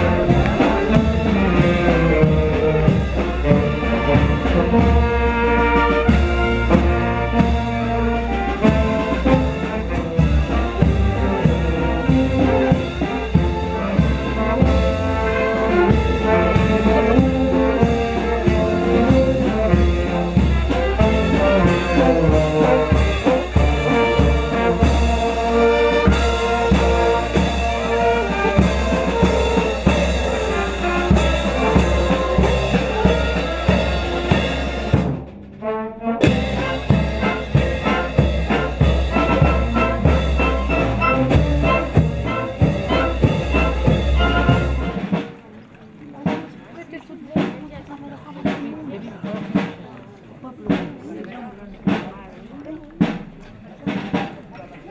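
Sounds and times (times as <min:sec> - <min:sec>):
steady drum beat: 0:00.0 - 0:45.4, 0:47.3 - 0:50.0, 0:50.6 - 0:51.2, 0:51.8 - 0:54.5
trumpets and trombones playing: 0:00.0 - 0:45.4.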